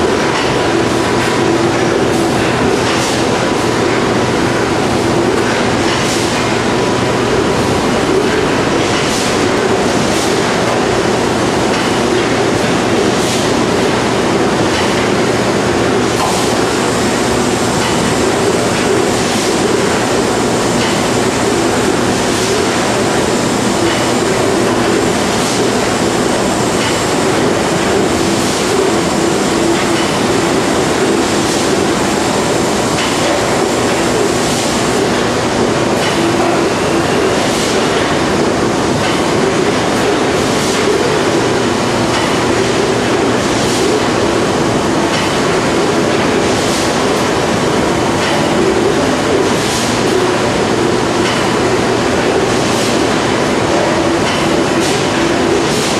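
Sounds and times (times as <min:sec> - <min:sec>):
mechanical clunks and clacks: 0:00.0 - 0:55.9.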